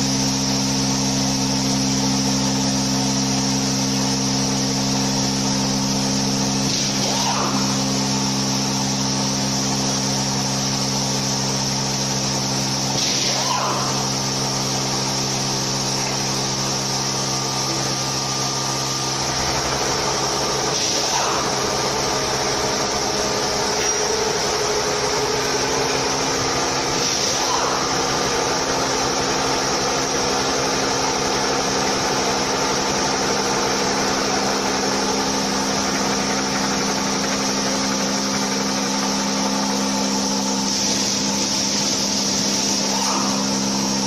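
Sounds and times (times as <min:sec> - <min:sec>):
milling machine humming: 0:00.0 - 0:44.0.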